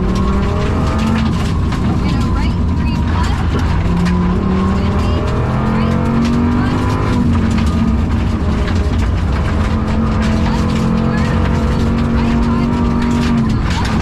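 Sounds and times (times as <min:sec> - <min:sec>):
rally car engine under load: 0:00.0 - 0:14.0
stones rattling against car: 0:00.0 - 0:14.0.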